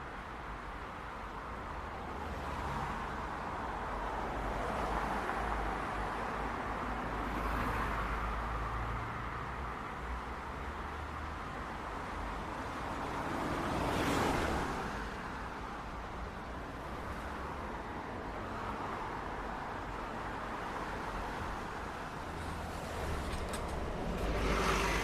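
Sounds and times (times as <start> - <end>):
passing car traffic: 0.0 - 25.0.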